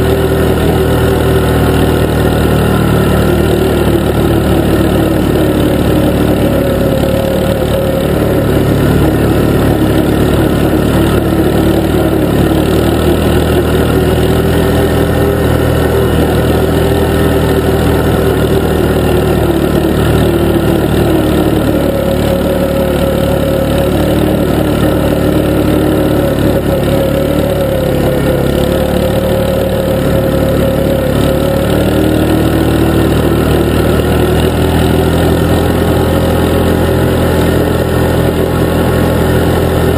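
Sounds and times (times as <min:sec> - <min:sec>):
atv engine drone: 0:00.0 - 0:39.9.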